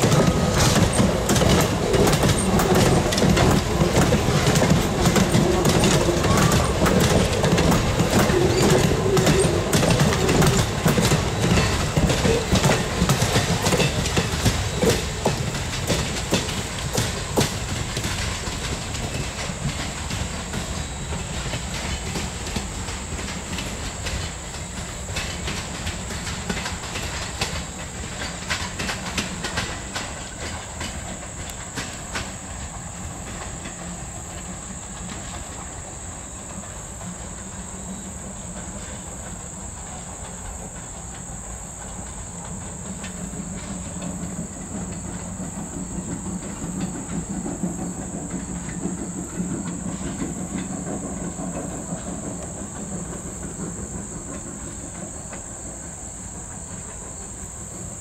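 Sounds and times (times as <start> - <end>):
train low rumble: 0.0 - 58.0
wheels clicking over rail joints: 0.0 - 58.0.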